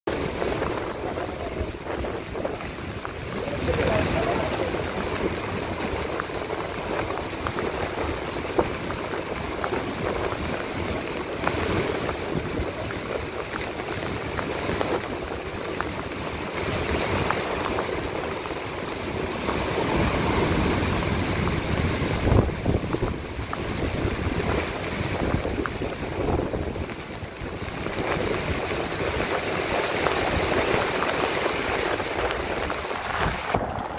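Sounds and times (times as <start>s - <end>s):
breaking surf: 0.1s - 33.9s
heavy rain: 0.1s - 33.9s
wind gusting over microphone: 0.1s - 33.9s.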